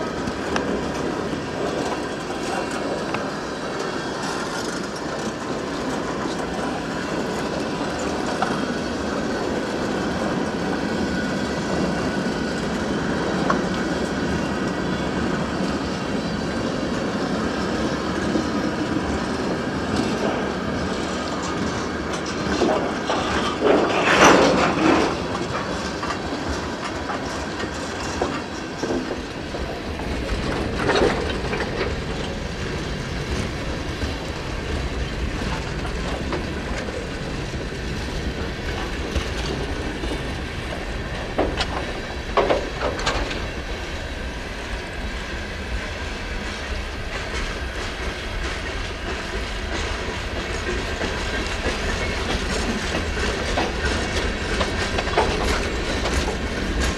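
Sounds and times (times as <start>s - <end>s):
freight train rumble: 0.0s - 56.9s
train cars clanking: 0.0s - 56.9s
train wheels clicking over rail joints: 0.0s - 56.9s.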